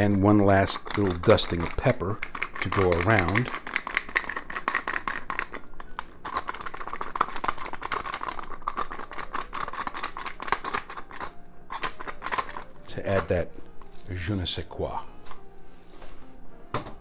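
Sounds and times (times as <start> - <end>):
pepper mill grinding: 0.0 - 14.7.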